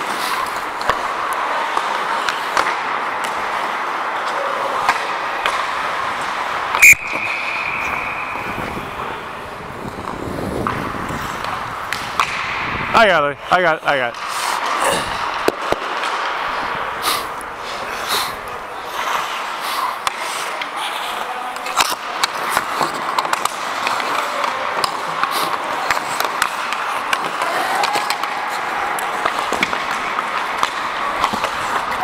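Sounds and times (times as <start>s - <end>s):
skate blades scraping ice: 0.0s - 32.0s.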